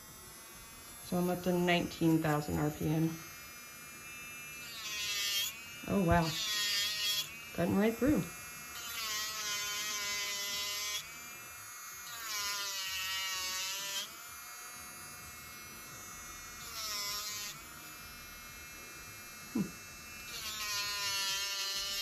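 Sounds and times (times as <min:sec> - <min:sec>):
nail drill whining and grinding: 0:00.0 - 0:22.0.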